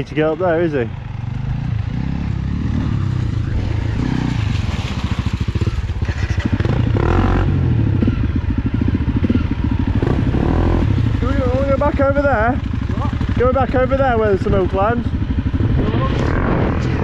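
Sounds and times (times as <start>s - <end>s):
dirt bike engine at low revs: 0.0s - 17.0s
dirt bike engines revving: 0.0s - 17.0s.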